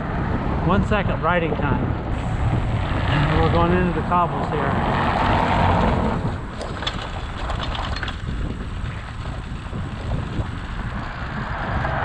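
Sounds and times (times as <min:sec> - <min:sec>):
wind buffeting microphone: 0:00.0 - 0:12.0
bike rattling over cobblestones: 0:02.1 - 0:12.0.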